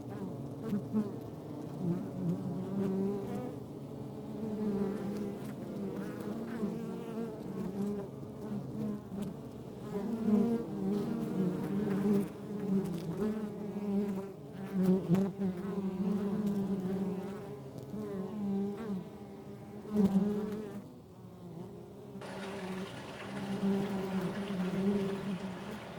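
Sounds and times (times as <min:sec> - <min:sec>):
single bee buzzing close: 0:00.0 - 0:22.8
honeybees buzzing: 0:00.4 - 0:25.9.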